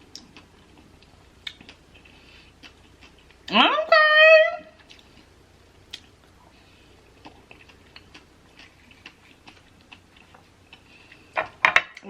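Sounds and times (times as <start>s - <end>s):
person chewing soft fruit: 0.0s - 3.5s, 4.8s - 12.0s.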